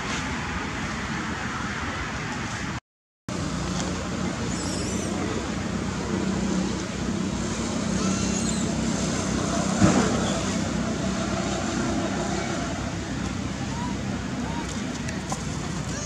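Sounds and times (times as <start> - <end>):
engine and traffic rumble: 0.0 - 16.0.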